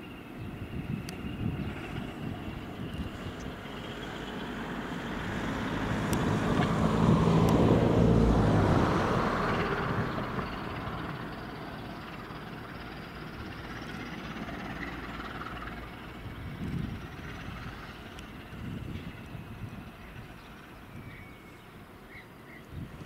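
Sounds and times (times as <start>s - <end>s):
diesel locomotive engines droning: 0.0s - 23.0s.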